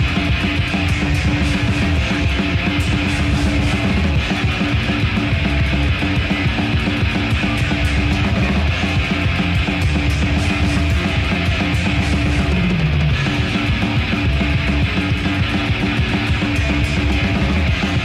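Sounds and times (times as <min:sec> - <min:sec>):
distorted guitars and bass: 0:00.0 - 0:18.0
fast dense drumming: 0:00.0 - 0:18.0.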